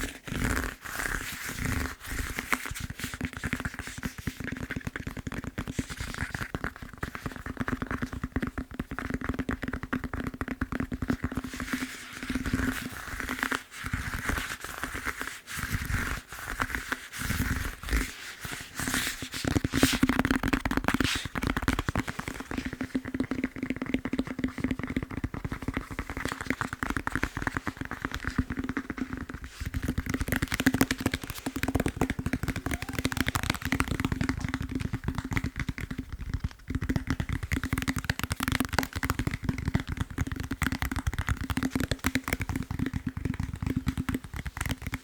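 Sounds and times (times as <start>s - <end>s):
fingertip tapping on foam roller: 2.3s - 14.8s, 19.4s - 45.0s.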